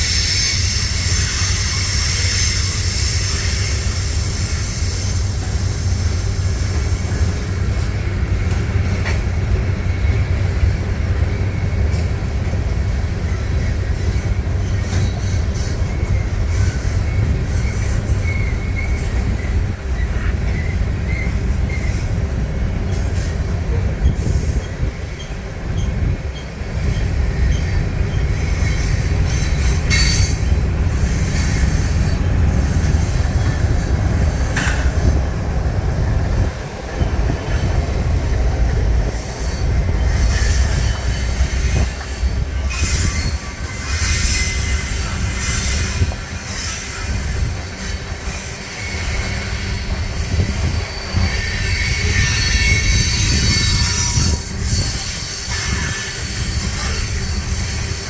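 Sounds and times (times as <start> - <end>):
freight train cars rumbling: 0.0 - 58.0
steel wheels squealing: 0.0 - 58.0.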